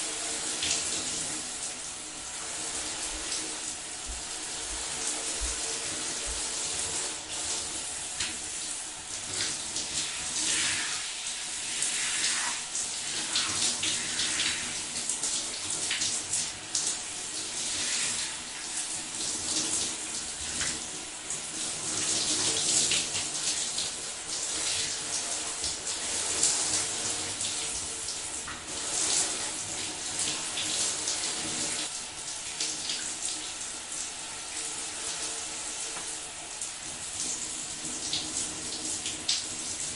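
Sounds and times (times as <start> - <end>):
shower water running and splashing: 0.0 - 39.9.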